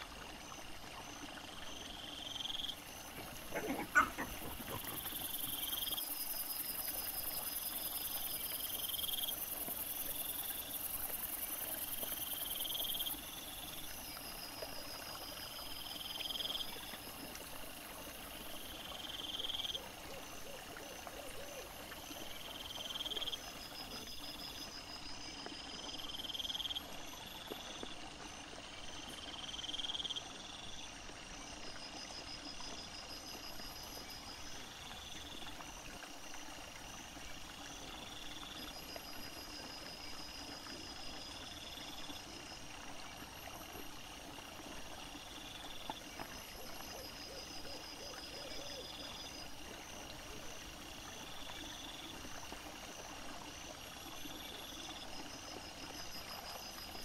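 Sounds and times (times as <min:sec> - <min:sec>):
night insects chirping and trilling: 0:00.0 - 0:57.0.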